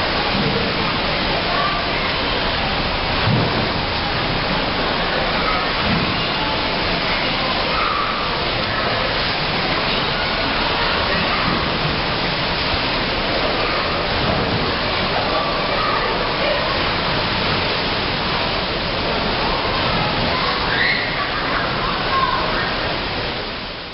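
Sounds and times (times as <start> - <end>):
water sloshing in a pool: 0.0 - 23.9.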